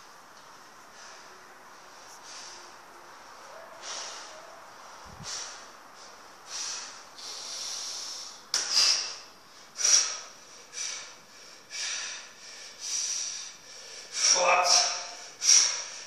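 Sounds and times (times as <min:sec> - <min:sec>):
man breathing sharply: 0:00.9 - 0:16.0.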